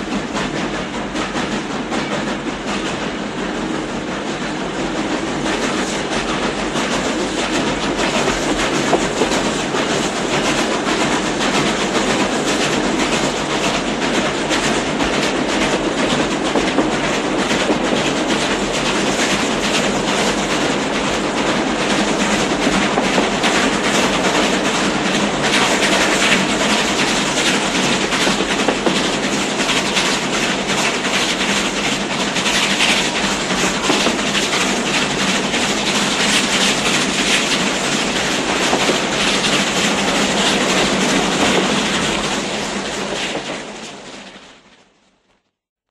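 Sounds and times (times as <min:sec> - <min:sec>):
train wheels clattering: 0:00.0 - 0:44.6.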